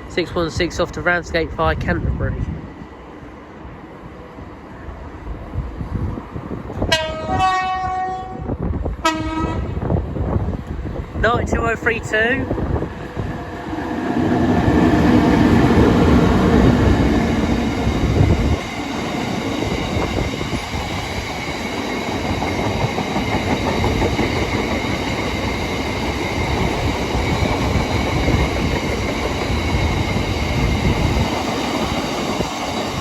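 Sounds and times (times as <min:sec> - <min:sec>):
electric locomotive hum: 0:00.0 - 0:33.0.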